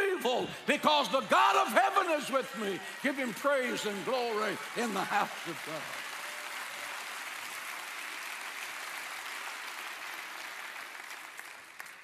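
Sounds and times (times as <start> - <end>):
crowd applauding: 1.3 - 12.0.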